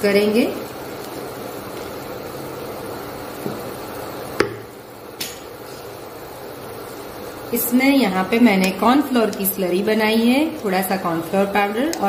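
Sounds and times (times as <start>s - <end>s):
soup boiling in a pot: 0.0s - 12.0s.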